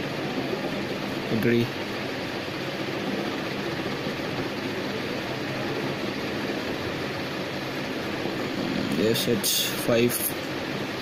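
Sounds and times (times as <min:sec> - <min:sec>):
fan rushing noise: 0:00.0 - 0:11.0.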